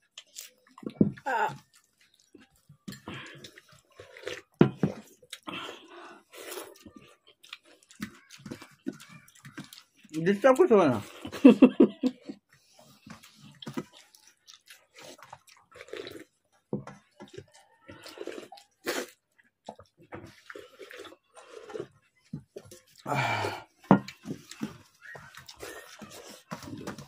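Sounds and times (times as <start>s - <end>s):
slurping water: 0.0s - 10.2s, 12.5s - 27.0s
wet squelches of rice eaten by hand: 0.0s - 11.3s, 12.6s - 16.5s, 17.3s - 27.0s.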